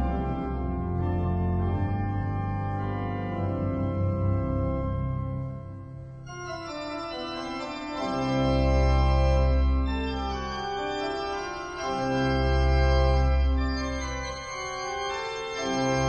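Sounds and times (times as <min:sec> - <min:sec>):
deep organ bass notes: 0:00.0 - 0:16.0
organ playing slow chords: 0:00.0 - 0:16.0.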